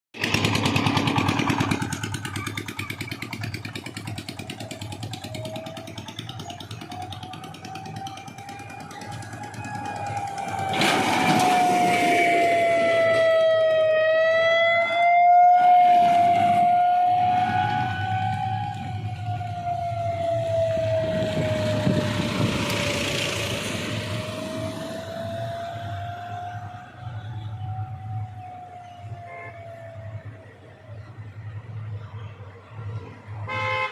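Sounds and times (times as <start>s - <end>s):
truck engine passing: 0.2s - 33.9s.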